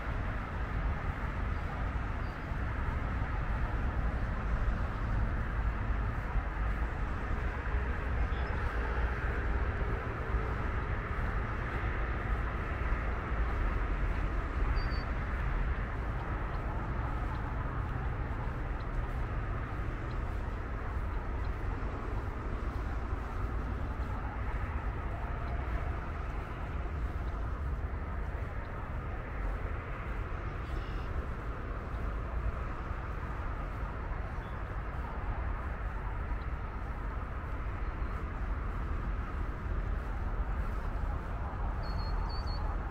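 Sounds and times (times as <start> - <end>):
distant road traffic rumble: 0.0 - 42.9.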